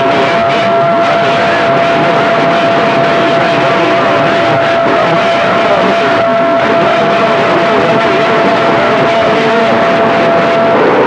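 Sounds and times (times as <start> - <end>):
garbled radio transmissions: 0.0 - 11.0
radio static: 0.0 - 11.0.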